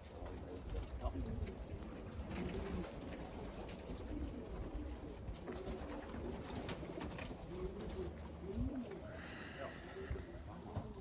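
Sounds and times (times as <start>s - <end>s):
pigeons cooing: 1.1s - 11.0s.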